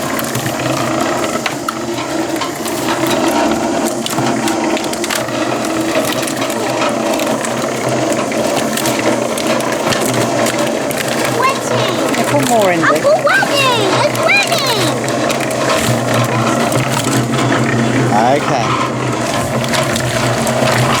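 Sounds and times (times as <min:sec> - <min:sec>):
concrete mixer rattling: 0:00.0 - 0:21.0.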